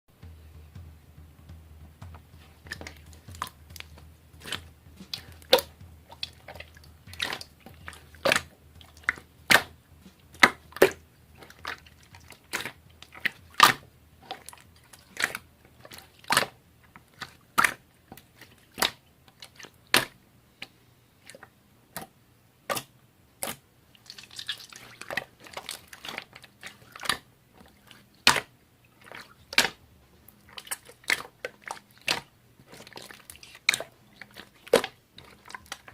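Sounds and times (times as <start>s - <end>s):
faint low hum: 0.2s - 35.9s.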